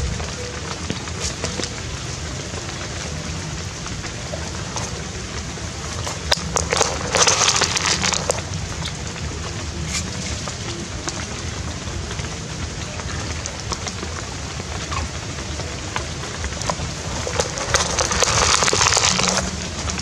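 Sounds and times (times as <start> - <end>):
crackling noise and sharp clicks: 0.0 - 20.0
rain patter: 0.0 - 20.0.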